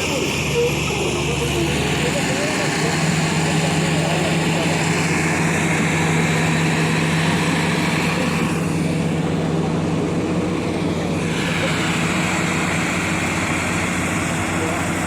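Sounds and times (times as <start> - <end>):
diesel engine low hum: 0.0 - 15.0.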